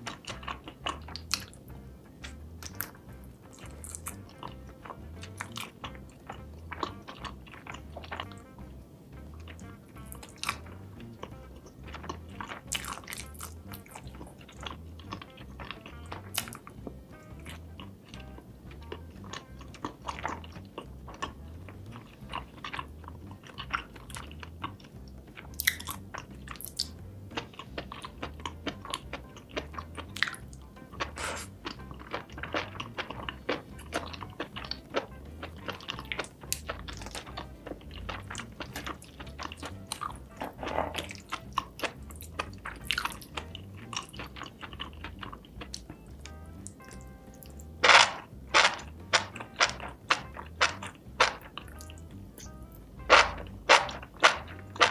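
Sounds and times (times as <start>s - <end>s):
mouth clicks and smacks: 0.0s - 8.6s, 9.2s - 54.9s
quiet background music with beat: 0.0s - 54.9s
wet chewing and biting: 0.0s - 54.9s.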